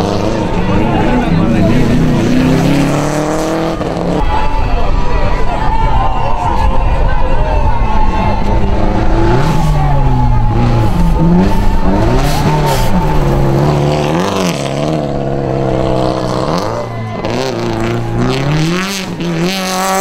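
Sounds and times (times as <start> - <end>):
rally car engines revving: 0.0 - 20.0.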